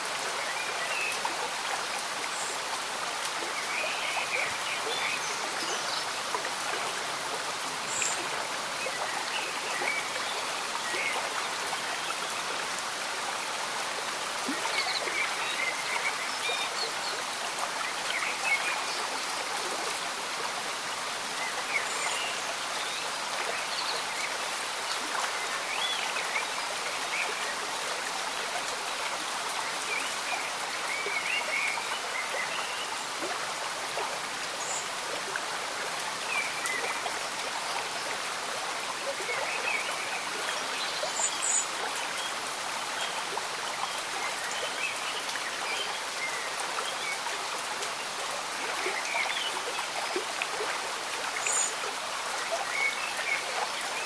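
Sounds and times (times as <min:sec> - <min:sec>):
gentle rain falling: 0:00.0 - 0:54.0
stream bubbling and gurgling: 0:00.0 - 0:54.0.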